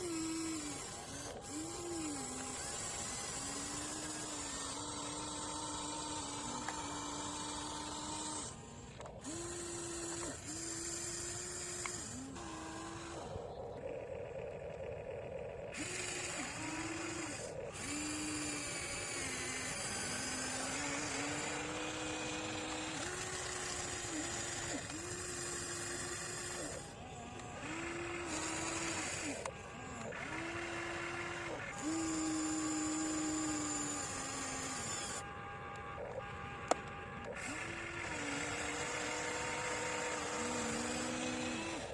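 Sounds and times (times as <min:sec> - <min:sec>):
electric motor and hydraulic pump whining: 0:00.0 - 0:41.9.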